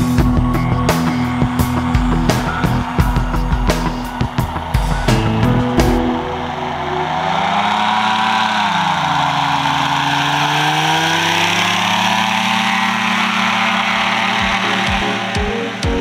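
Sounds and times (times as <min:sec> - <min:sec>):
engine and propeller running: 0:00.0 - 0:16.0.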